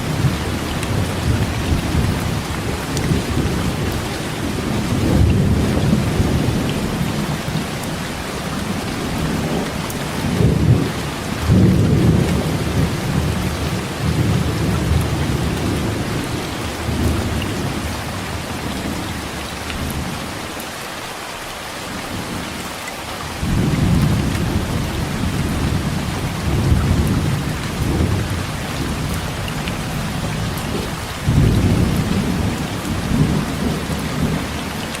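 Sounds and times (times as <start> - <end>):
low thunder rumbling: 0.0 - 20.2, 23.4 - 35.0
heavy rain pouring: 0.0 - 35.0.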